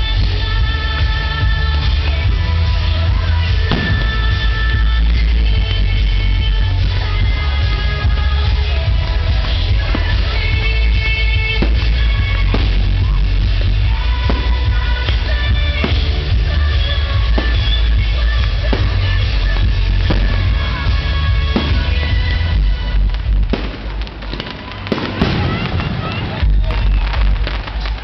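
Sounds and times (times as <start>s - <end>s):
heavy bass: 0.0s - 25.8s
loud music with singing: 0.0s - 28.0s.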